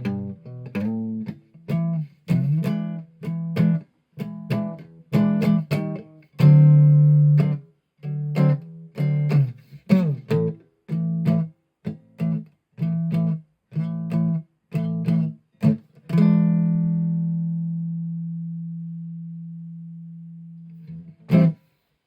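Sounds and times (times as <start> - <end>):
plucked guitar chords: 0.0 - 21.6.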